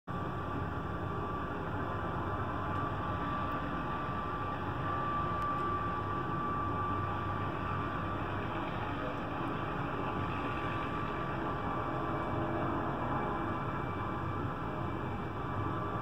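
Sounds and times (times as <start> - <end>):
distant helicopter drone: 0.1 - 16.0
thin high whine: 0.1 - 16.0.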